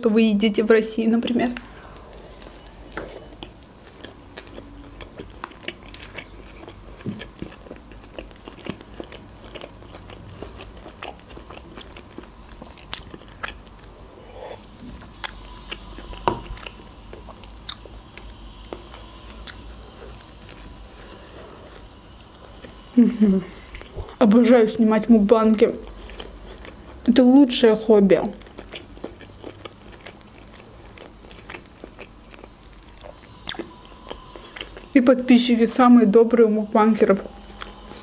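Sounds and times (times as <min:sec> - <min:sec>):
person chewing food: 0:01.6 - 0:24.2, 0:25.5 - 0:27.1, 0:28.3 - 0:35.0, 0:37.3 - 0:38.0.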